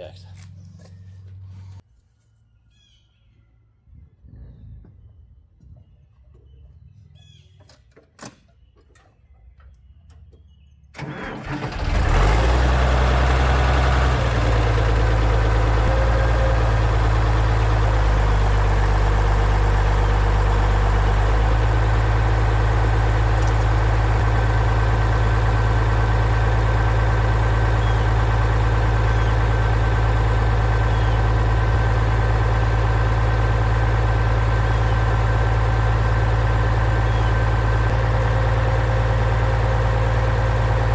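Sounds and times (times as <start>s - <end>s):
tractor engine cranking and idling: 6.3s - 40.9s.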